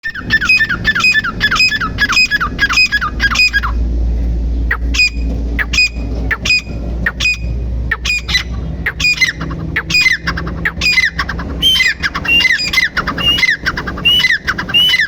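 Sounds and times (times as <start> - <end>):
francolin calling harsh notes: 0.0 - 3.9, 4.6 - 15.0
steady low hum: 0.0 - 15.0.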